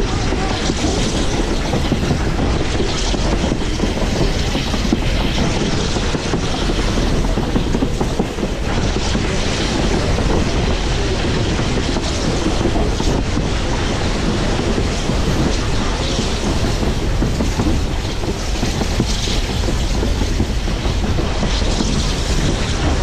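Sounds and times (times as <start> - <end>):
clickety-clack over rail joints: 0.0 - 23.0
train wheels rumbling on rails: 0.0 - 23.0.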